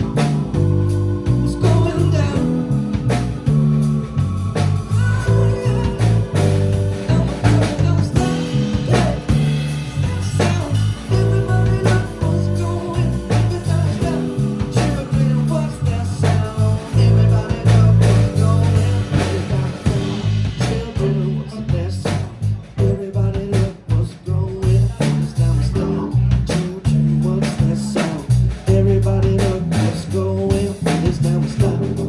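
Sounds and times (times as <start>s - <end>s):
blues-rock band playing: 0.0s - 32.0s
electric bass line: 0.0s - 32.0s.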